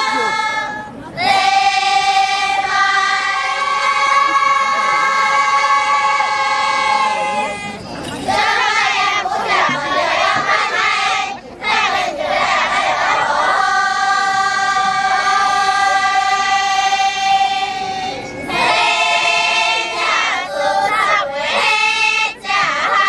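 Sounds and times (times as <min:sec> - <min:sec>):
choir of girls singing: 0:00.0 - 0:23.0.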